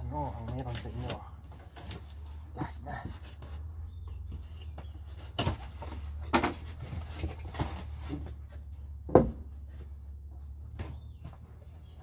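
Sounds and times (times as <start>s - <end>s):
objects knocking and rubbing: 0.5s - 10.1s.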